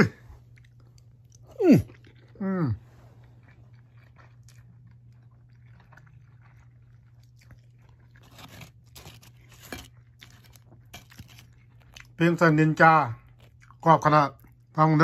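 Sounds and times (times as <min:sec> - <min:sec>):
steady low hum: 0:00.0 - 0:15.0
crunchy chewing: 0:00.4 - 0:14.8.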